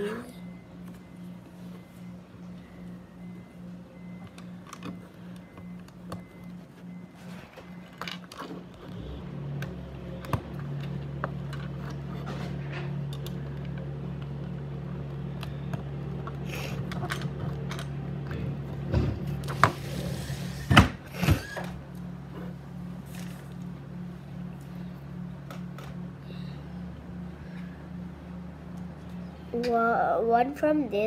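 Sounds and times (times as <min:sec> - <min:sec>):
low machine hum: 0:00.0 - 0:31.0.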